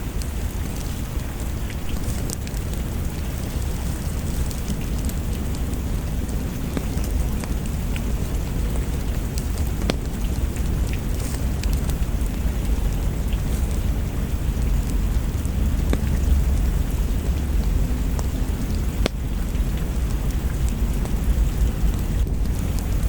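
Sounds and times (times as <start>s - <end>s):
deep low rumble: 0.0s - 23.0s
steady rain: 0.0s - 23.0s.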